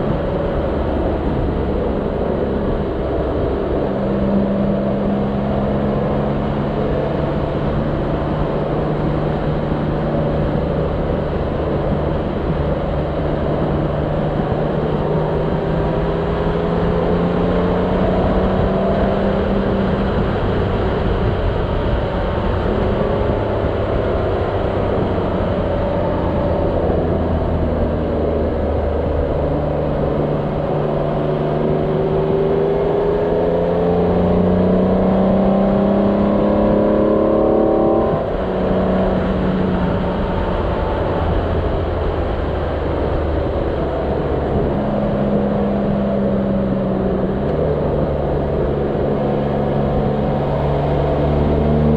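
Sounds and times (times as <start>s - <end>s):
road noise: 0.0s - 51.9s
wind noise: 0.0s - 51.9s.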